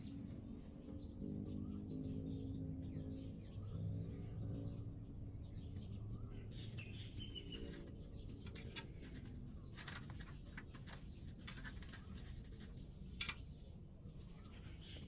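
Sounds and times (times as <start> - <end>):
faint birds chirping: 0.0 - 15.0
low steady background noise: 0.0 - 15.0.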